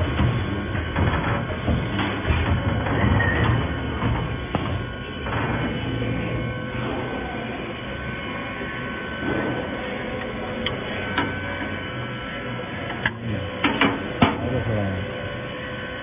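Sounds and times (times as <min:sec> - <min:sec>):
welding machine hum: 0:00.0 - 0:16.0.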